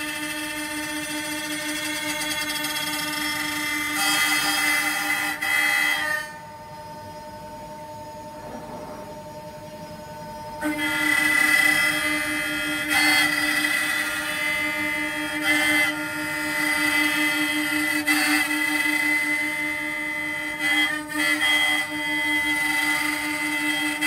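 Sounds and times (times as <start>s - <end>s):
router spindles whining: 0.0s - 6.8s, 8.4s - 24.0s.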